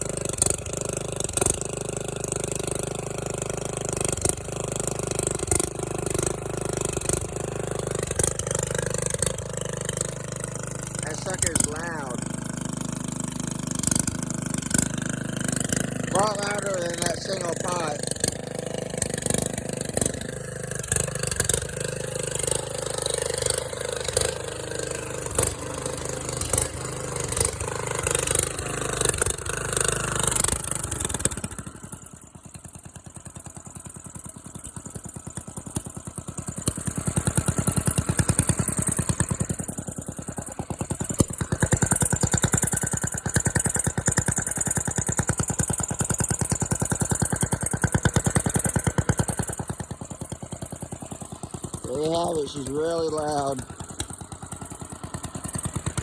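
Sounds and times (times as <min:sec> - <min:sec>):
loud engine exhaust: 0:00.0 - 0:56.0.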